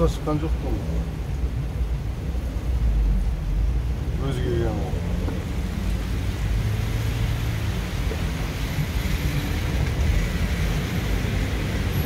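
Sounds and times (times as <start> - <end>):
engine and road rumble: 0.0 - 12.0
tyres hissing on wet road: 0.0 - 12.0.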